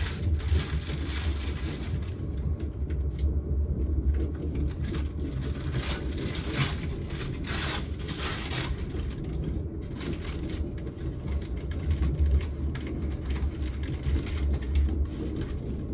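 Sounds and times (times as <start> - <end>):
train rumbling: 0.0 - 15.9.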